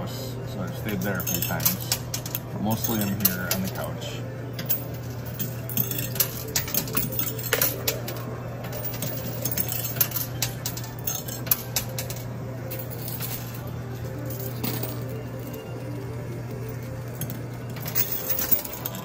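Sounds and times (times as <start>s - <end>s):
machine hum: 0.0s - 19.0s
coins clinking: 0.6s - 19.0s.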